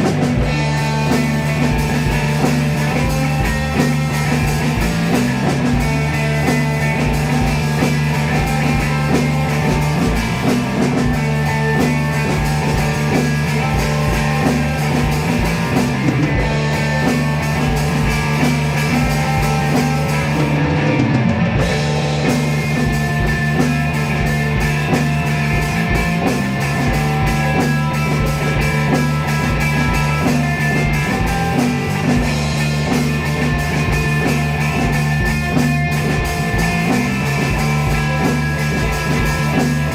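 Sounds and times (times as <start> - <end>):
drum kit: 0.0 - 39.9
electric guitar: 0.0 - 39.9
sustained bass line: 0.0 - 39.9.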